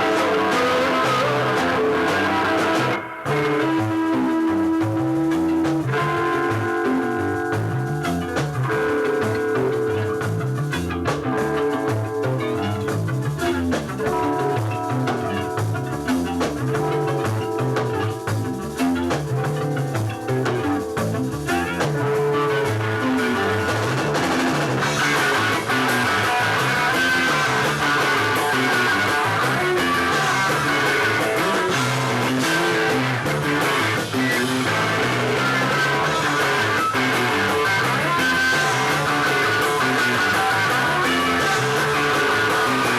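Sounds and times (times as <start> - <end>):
drums: 0.0 - 42.9
electric guitar: 0.0 - 42.9
moving bass line: 0.0 - 42.9.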